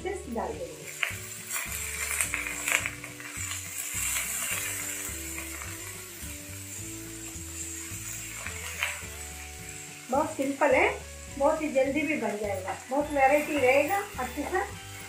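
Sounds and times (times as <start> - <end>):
hot oil sizzling in a pan: 0.0 - 15.0.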